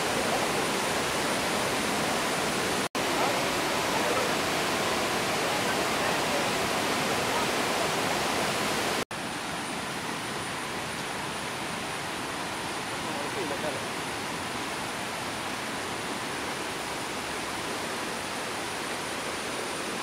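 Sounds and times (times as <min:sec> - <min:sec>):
rushing river roar: 0:00.0 - 0:20.0.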